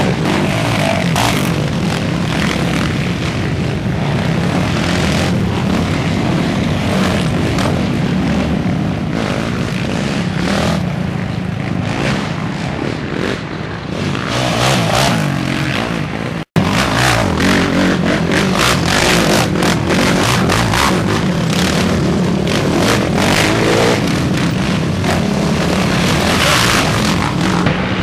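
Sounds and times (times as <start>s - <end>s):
quad engines revving: 0.0s - 28.0s.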